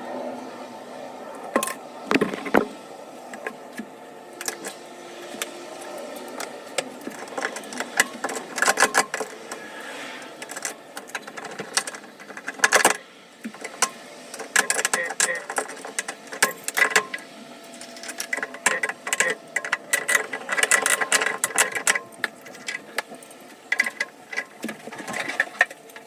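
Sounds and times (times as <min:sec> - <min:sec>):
hand tools clicking and clattering: 0:03.3 - 0:26.0.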